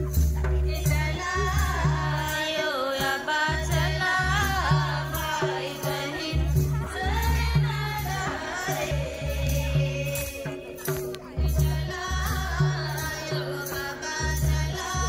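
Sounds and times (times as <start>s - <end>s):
percussion: 0.0s - 15.0s
voices singing folk song: 0.4s - 15.0s.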